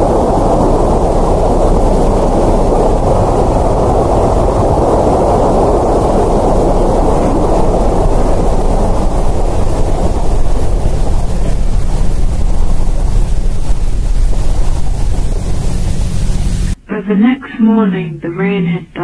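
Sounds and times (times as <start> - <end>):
loud steady rushing noise: 0.0 - 16.8.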